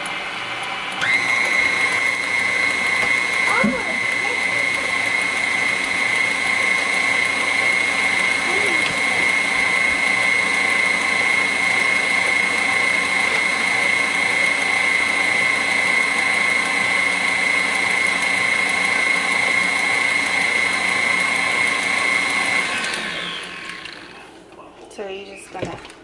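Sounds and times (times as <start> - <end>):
stand mixer motor whine: 0.0 - 24.4.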